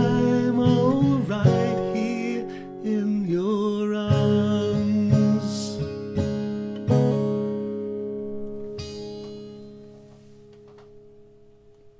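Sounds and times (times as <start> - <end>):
acoustic guitar strums: 0.0 - 11.7.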